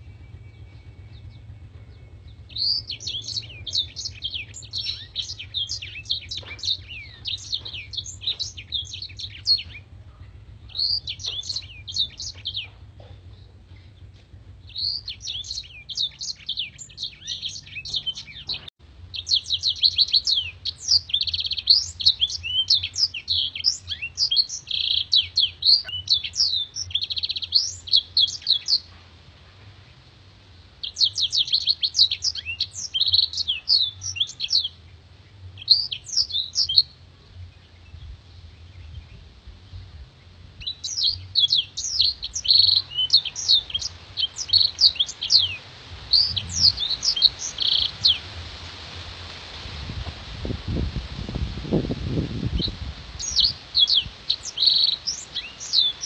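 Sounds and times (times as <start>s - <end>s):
canary singing: 0.0s - 28.9s, 30.8s - 37.0s, 40.6s - 48.4s, 52.4s - 56.0s.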